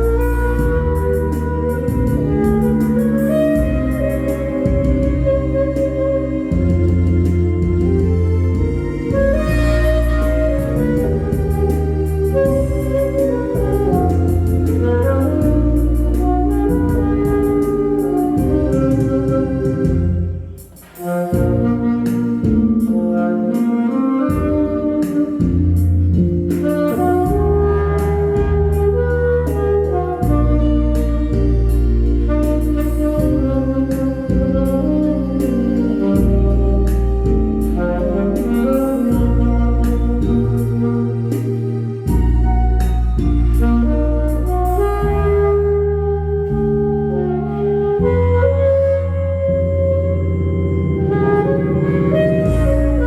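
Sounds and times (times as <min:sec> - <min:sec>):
steady drum beat: 0:00.0 - 0:46.7, 0:49.8 - 0:53.0
bass line: 0:00.0 - 0:53.0
organ-like keyboard notes: 0:00.0 - 0:53.0
saxophone melody: 0:00.0 - 0:53.0.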